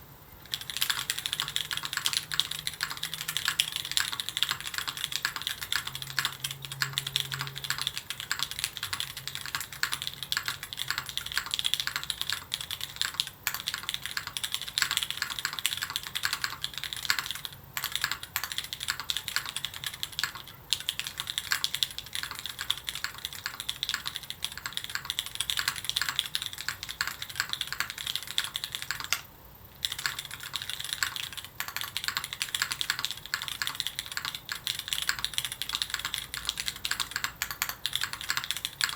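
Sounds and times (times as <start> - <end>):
mechanical keyboard typing: 0.4 - 38.9.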